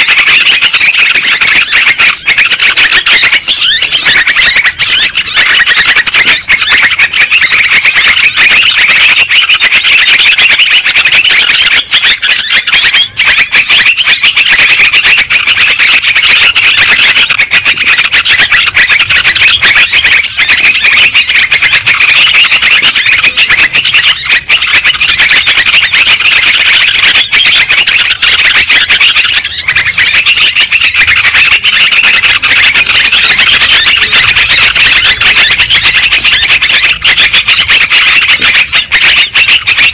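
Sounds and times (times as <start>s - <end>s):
chorus of bird chirps: 0.0s - 39.9s.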